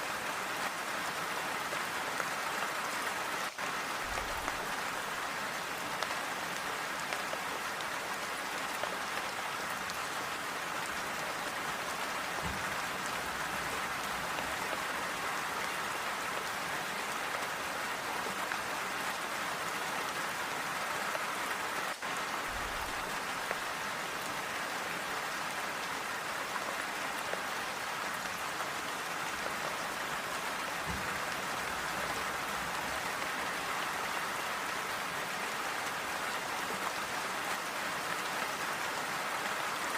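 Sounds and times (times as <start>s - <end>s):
rain on a tile roof: 0.0s - 39.9s.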